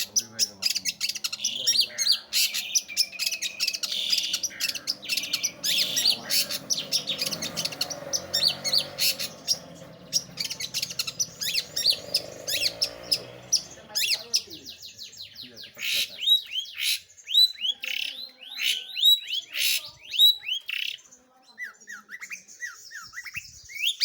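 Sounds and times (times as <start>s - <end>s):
bird singing sharp chirps: 0.0s - 24.0s.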